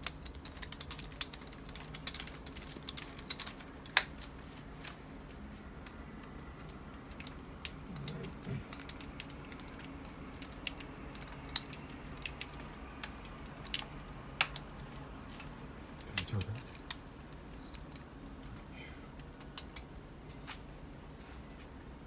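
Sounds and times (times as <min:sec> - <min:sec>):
light clicks and taps: 0:00.0 - 0:20.6
steady low hum: 0:00.0 - 0:22.0.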